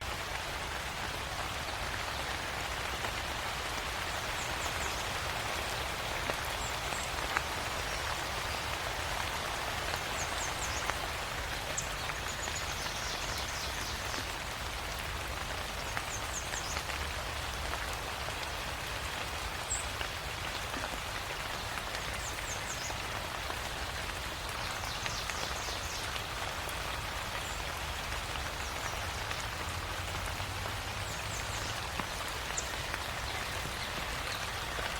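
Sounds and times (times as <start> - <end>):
rain pattering on surfaces: 0.0 - 34.9.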